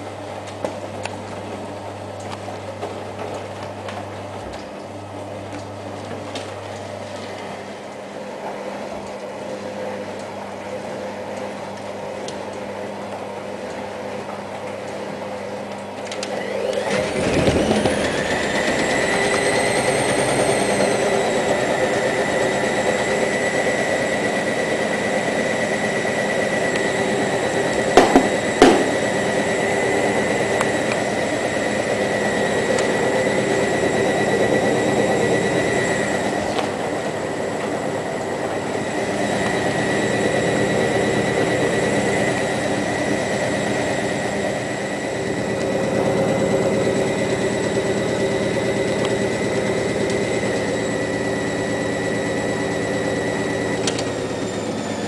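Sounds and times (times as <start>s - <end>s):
motor whine: 0.0s - 55.0s
washing machine running: 0.0s - 55.0s.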